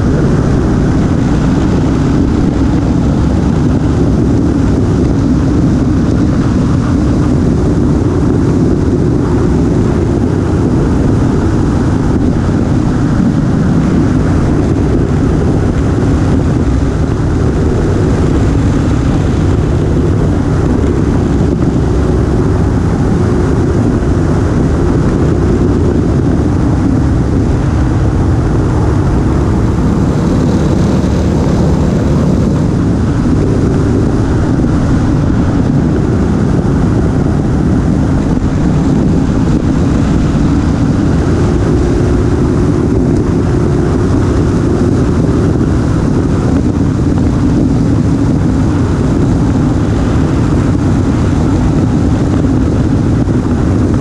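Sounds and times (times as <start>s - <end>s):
motorcycle engine cruising: 0.0s - 54.0s
road noise: 0.0s - 54.0s
wind rush on microphone: 0.0s - 54.0s.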